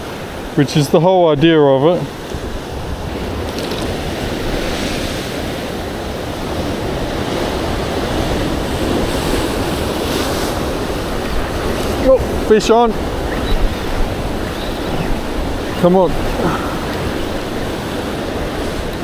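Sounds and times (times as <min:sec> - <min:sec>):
ocean surf washing against rocks: 0:00.0 - 0:19.0
wind on microphone: 0:02.0 - 0:19.0.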